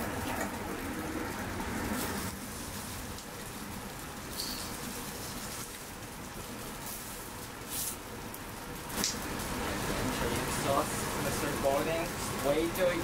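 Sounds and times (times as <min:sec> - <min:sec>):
patties sizzling in a pan: 0:01.5 - 0:13.0.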